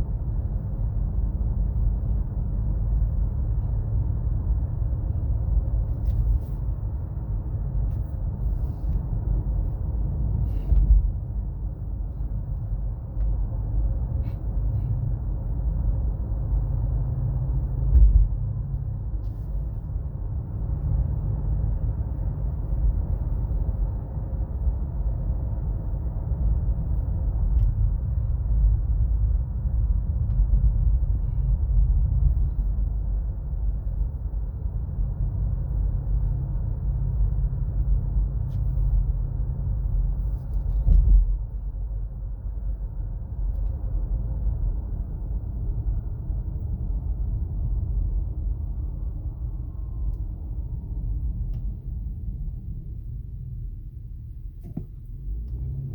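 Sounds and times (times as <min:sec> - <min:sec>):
road and tyre rumble: 0:00.0 - 0:55.9.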